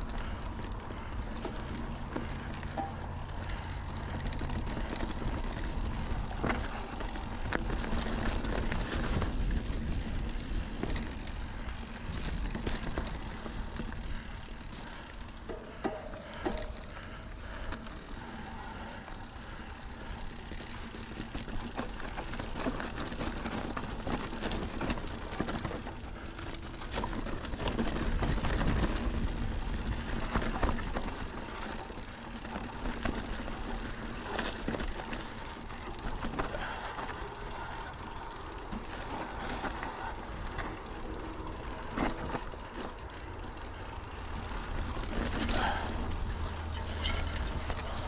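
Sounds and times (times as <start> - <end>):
bike chain and frame rattling: 0.0 - 48.0
bike tyres running over dirt: 0.0 - 48.0.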